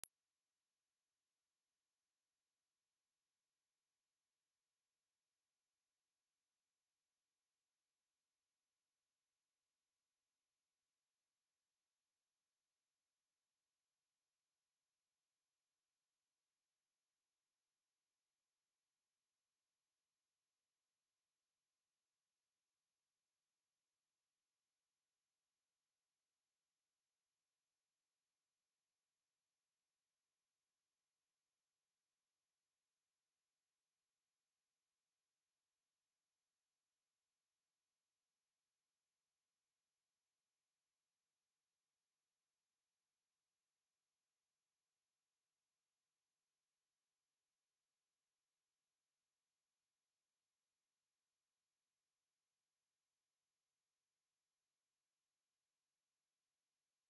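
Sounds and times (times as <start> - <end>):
high-pitched sine test tone: 0.0 - 57.0.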